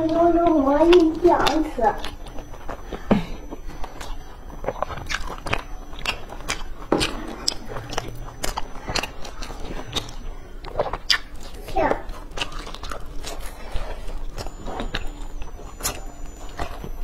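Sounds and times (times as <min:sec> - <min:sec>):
chewing crunchy fried food: 0:00.1 - 0:17.0.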